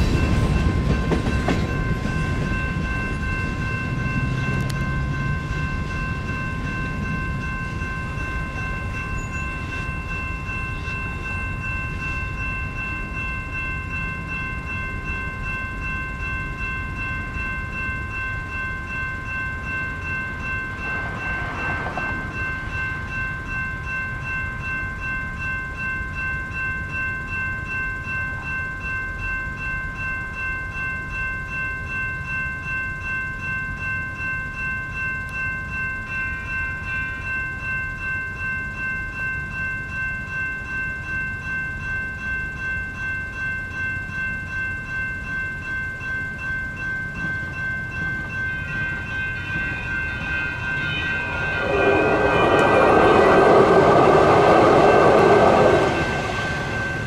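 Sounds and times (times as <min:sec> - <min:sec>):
crossing warning bells ringing: 0:00.0 - 0:57.0
train rolling rumble: 0:00.0 - 0:57.0.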